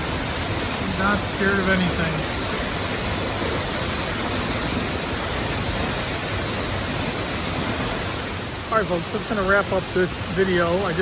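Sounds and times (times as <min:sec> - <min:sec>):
waterfall crashing onto rocks: 0:00.0 - 0:11.0.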